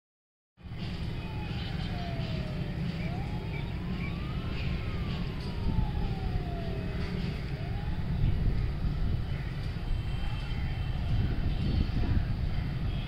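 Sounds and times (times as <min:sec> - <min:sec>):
wailing siren: 0:00.6 - 0:13.0.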